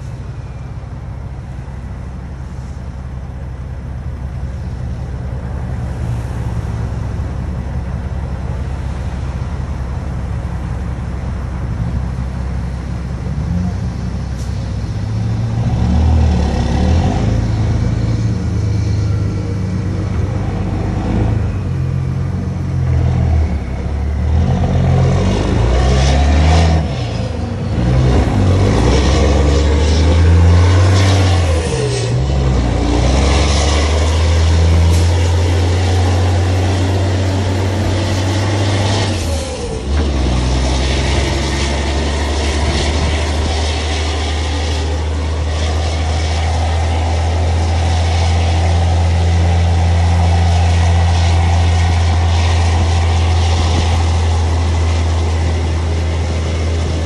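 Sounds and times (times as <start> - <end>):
diesel truck engine: 0.0 - 57.0.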